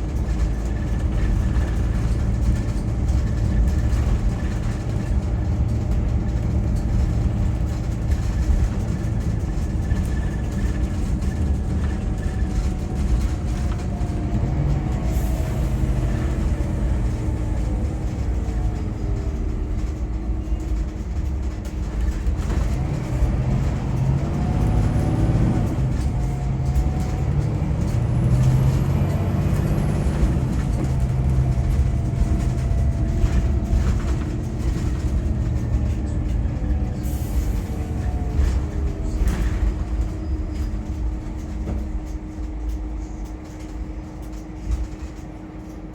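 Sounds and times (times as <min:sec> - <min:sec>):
coach engine drone: 0:00.0 - 0:45.9
tyre road noise: 0:00.0 - 0:45.9.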